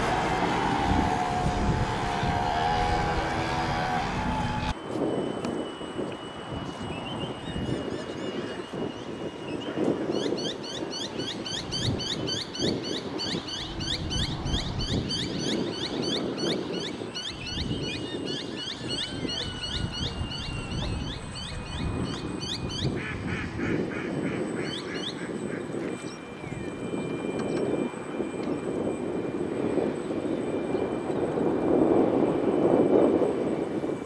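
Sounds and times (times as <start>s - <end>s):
electric boat motor whine: 0.0s - 34.0s.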